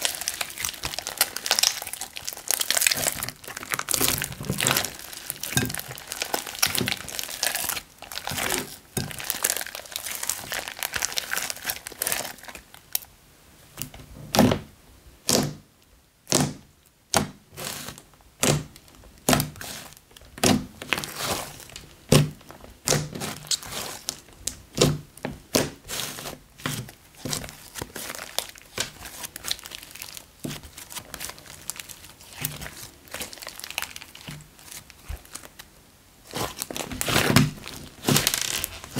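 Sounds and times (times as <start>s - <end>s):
slime squishing: 0.0s - 13.0s, 16.3s - 38.9s.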